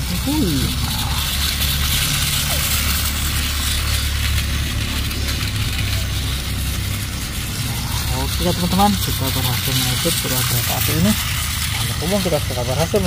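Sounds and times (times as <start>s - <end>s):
toy train motors whirring: 0.0s - 13.0s.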